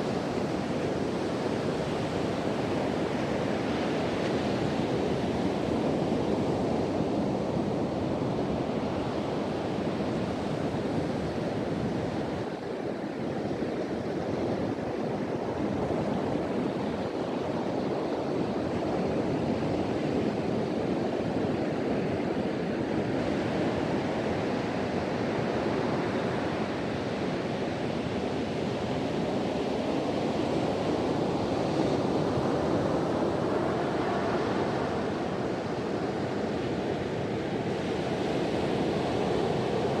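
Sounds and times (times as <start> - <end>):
wind blowing across microphone: 0.0 - 40.0.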